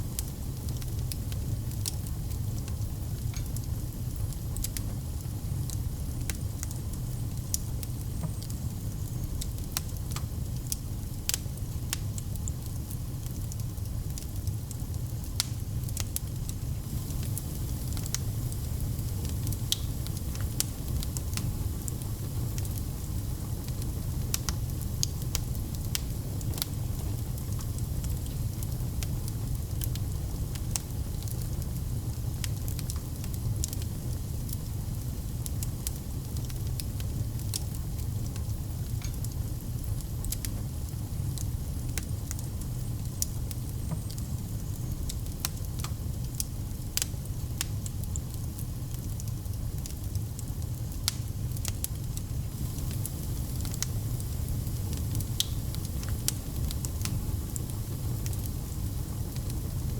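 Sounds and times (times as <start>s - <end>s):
low rumble of flames: 0.0s - 59.9s
sharp fire pops and snaps: 0.0s - 59.9s
wood fire crackling: 0.0s - 59.9s.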